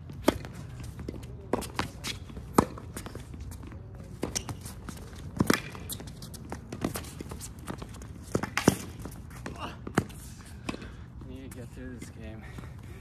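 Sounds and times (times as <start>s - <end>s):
tennis balls struck and bouncing: 0.0s - 12.1s
players' footsteps on court: 0.0s - 13.0s.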